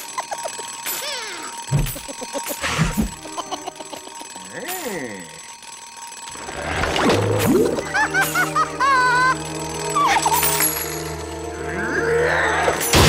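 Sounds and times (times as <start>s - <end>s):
cartoon alarm clock ringing: 0.0s - 13.0s.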